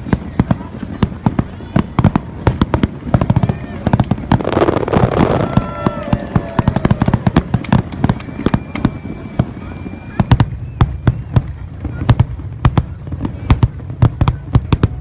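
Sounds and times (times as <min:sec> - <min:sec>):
fireworks bangs: 0:00.0 - 0:15.0
fireworks crackling: 0:00.0 - 0:15.0
fireworks whistling: 0:00.0 - 0:15.0.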